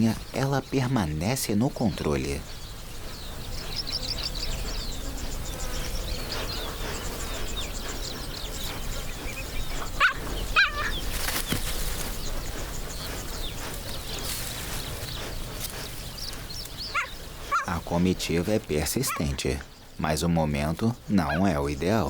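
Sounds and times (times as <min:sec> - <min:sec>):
cheetahs chirping and yelping: 0:00.0 - 0:22.0
outdoor background: 0:00.0 - 0:22.0.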